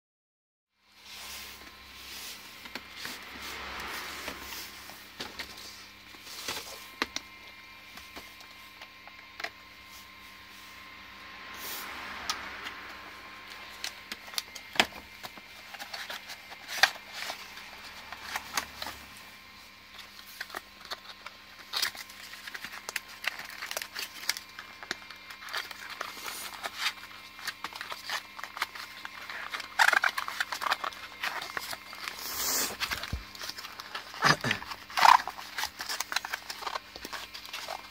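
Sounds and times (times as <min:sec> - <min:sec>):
plastic and cardboard crinkling: 0:01.0 - 0:10.7, 0:12.0 - 0:37.9.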